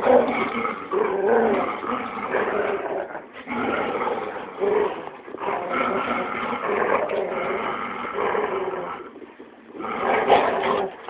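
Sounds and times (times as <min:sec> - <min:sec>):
dogs growling in play: 0:00.0 - 0:11.0.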